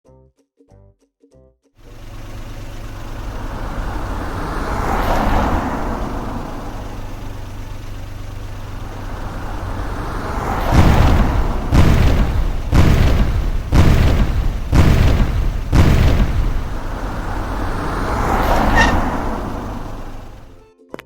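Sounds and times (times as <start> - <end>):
low engine-like rumble: 1.9 - 20.6.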